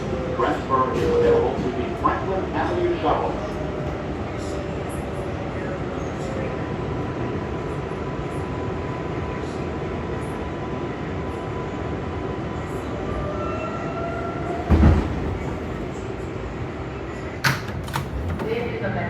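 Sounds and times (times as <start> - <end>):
subway car rumble: 0.0 - 19.0.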